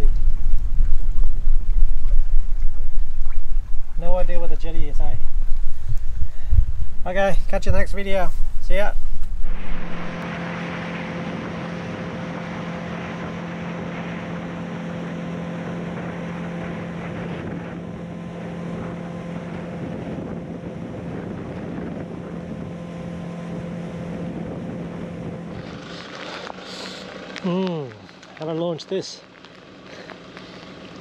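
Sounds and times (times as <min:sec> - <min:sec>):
wind buffeting microphone: 0:00.0 - 0:26.2
outboard motor running: 0:00.0 - 0:28.5.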